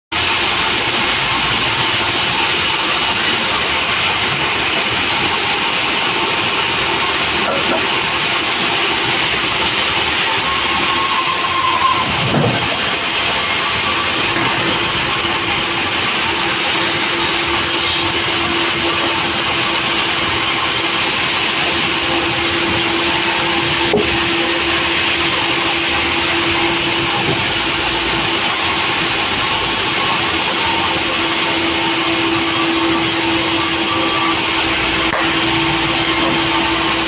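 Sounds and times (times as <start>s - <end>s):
sawmill machine running: 0.2s - 37.0s.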